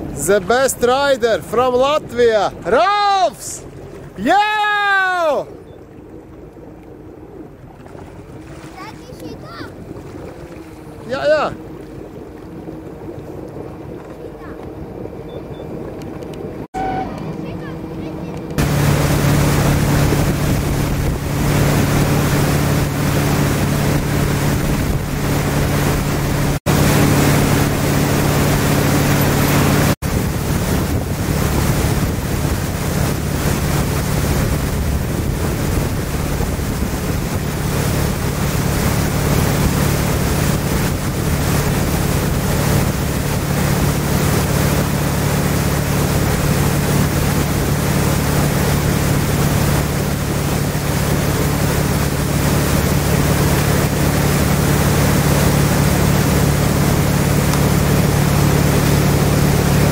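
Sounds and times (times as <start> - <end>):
motorboat engine running: 0.0 - 59.9
water rushing: 0.0 - 59.9
wind buffeting microphone: 7.4 - 59.9.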